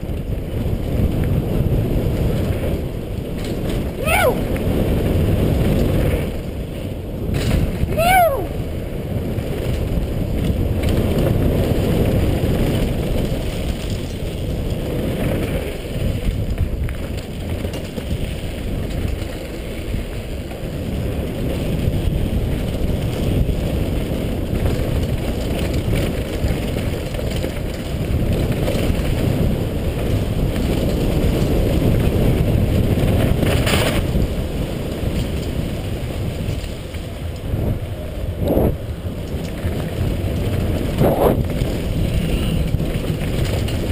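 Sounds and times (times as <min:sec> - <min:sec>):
bike tyres rumbling on gravel: 0:00.0 - 0:43.9
wind buffeting microphone: 0:00.0 - 0:43.9.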